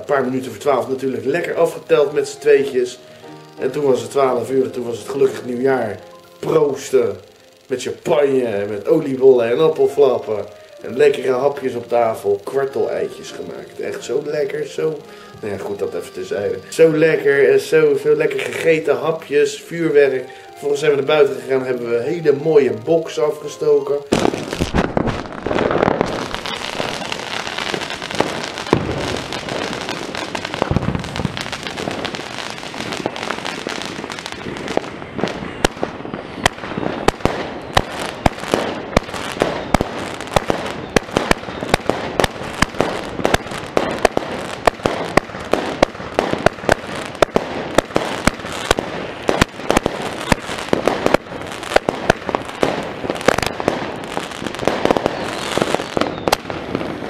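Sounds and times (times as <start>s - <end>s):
fireworks shots and crackling: 0.0s - 57.0s.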